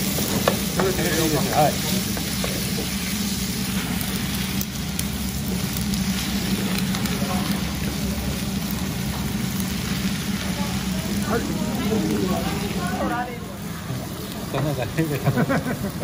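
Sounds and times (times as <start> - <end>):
food sizzling in a frying pan: 0.0 - 16.0
steady low hum: 0.0 - 16.0.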